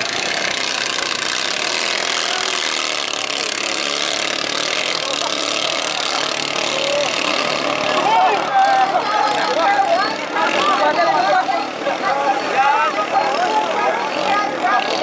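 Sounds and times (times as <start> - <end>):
racing boat engines droning: 0.0 - 15.0.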